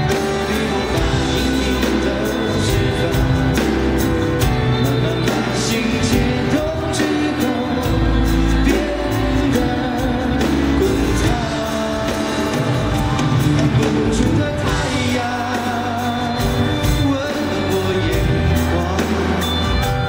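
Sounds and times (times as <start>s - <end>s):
amplified band playing: 0.0s - 20.0s
man singing into microphone: 0.0s - 20.0s.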